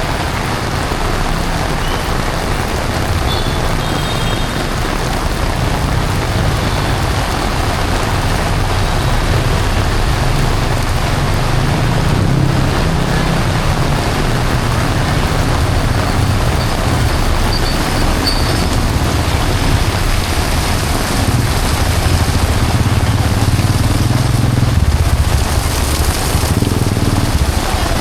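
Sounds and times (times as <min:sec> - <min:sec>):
heavy rain pouring: 0:00.0 - 0:28.0
low traffic rumble: 0:00.0 - 0:28.0.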